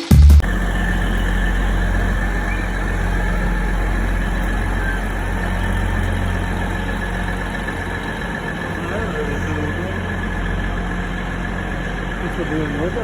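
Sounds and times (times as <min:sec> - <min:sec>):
train engine idling: 0:00.0 - 0:13.0
faint high whine: 0:00.4 - 0:13.0.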